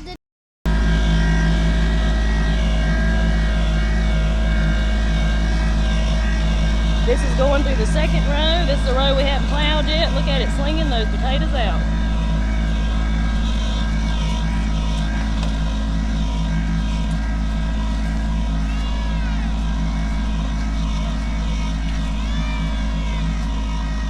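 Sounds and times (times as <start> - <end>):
tractor diesel engine under load: 0.7 - 24.0.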